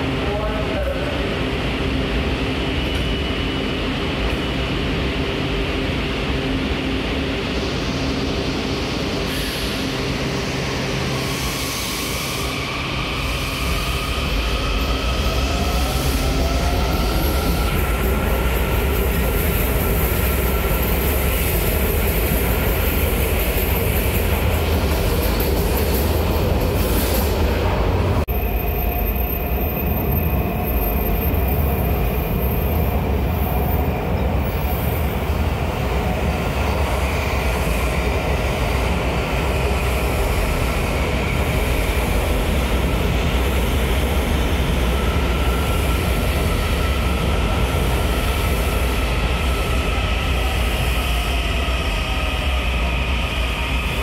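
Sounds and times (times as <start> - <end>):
train wheel and rail noise: 0.0 - 54.0.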